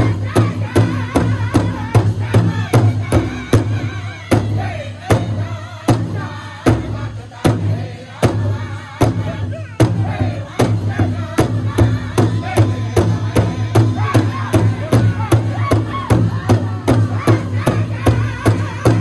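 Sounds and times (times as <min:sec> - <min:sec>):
group singing in chorus: 0:00.0 - 0:19.0
large drum beating: 0:00.0 - 0:19.0.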